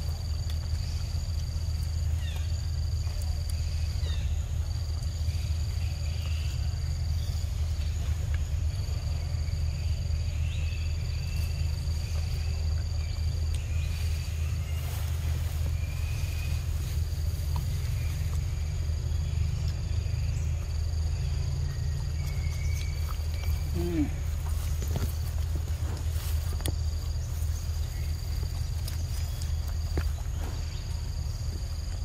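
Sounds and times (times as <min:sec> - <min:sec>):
low forest rumble: 0:00.0 - 0:32.0.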